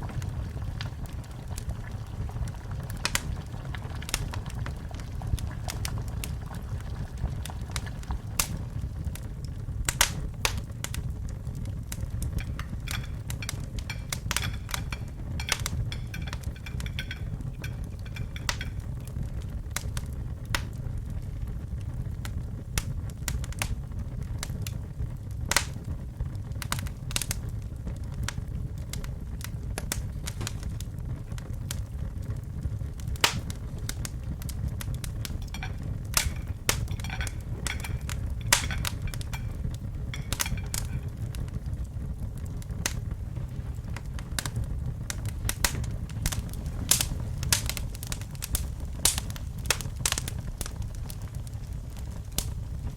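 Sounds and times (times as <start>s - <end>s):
low rumble of flames: 0.0s - 52.9s
wood fire crackling: 0.0s - 52.9s.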